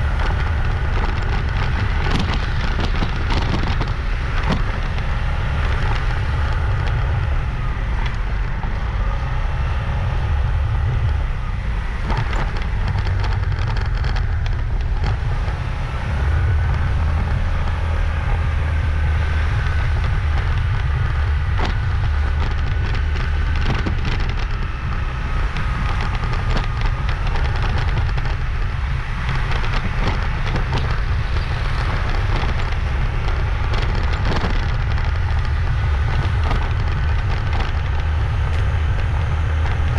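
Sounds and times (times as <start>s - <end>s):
motorbike engine running: 0.0s - 39.9s
rattles and clicks: 0.0s - 39.9s
wind buffeting microphone: 0.0s - 39.9s.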